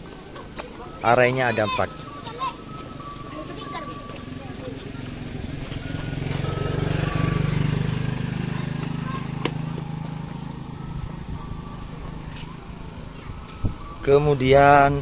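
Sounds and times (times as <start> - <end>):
vehicle engine passing by: 2.0 - 14.0.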